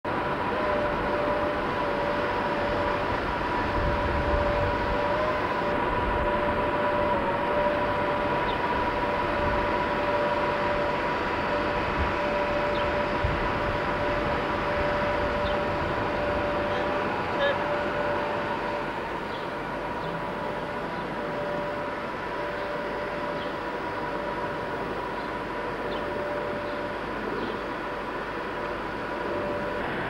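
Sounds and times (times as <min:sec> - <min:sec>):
electric locomotive hum: 0:00.0 - 0:30.0
two-note whine: 0:00.1 - 0:30.0.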